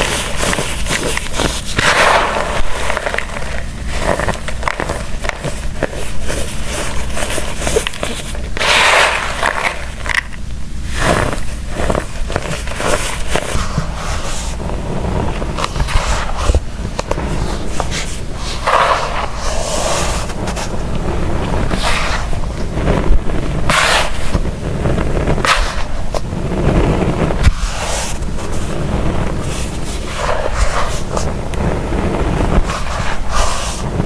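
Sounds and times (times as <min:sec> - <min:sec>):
crunchy blocks being crushed: 0:00.0 - 0:34.0.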